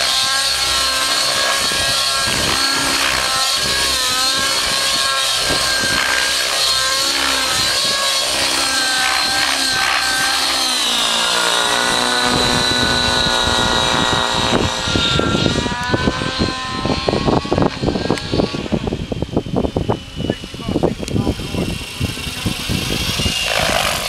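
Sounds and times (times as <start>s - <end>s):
model helicopter engine and rotor: 0.0s - 24.0s.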